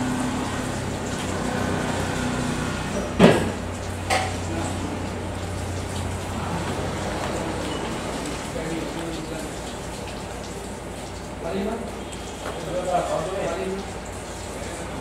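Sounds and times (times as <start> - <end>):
restaurant background noise: 0.0 - 15.0.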